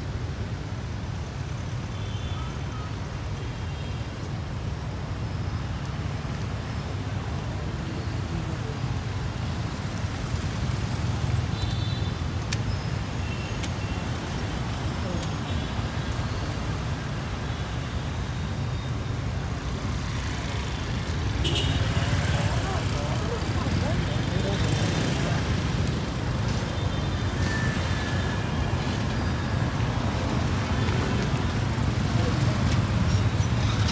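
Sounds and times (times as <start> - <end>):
traffic rumble: 0.0 - 33.9
motorbike engines passing: 6.2 - 33.9.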